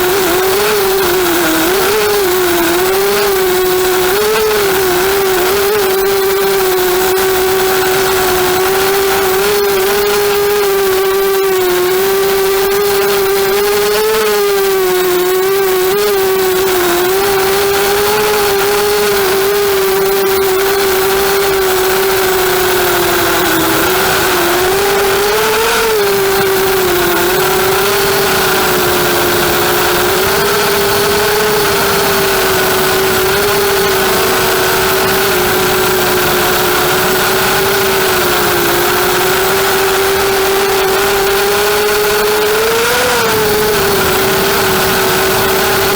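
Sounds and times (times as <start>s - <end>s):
quadcopter propellers whining: 0.0s - 45.9s.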